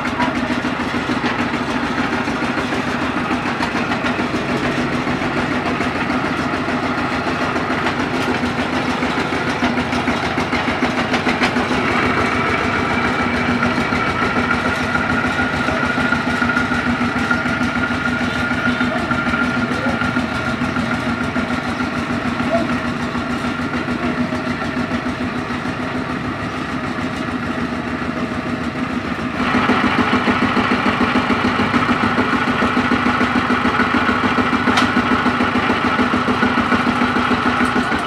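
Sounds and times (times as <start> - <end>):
diesel engine chugging: 0.0 - 38.0.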